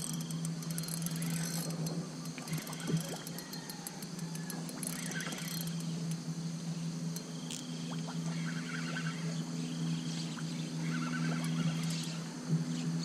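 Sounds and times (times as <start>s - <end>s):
low river hum: 0.0s - 13.0s.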